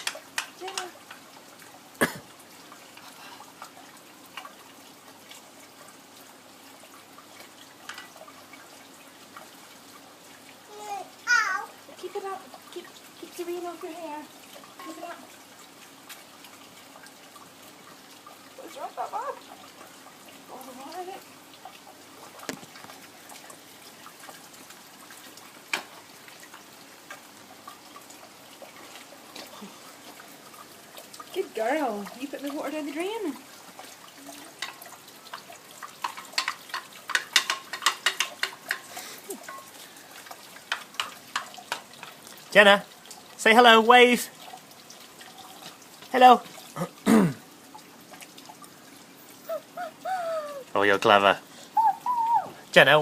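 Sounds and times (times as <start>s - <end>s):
rain falling and dripping: 0.0s - 53.0s
water pouring down a drain: 0.0s - 53.0s.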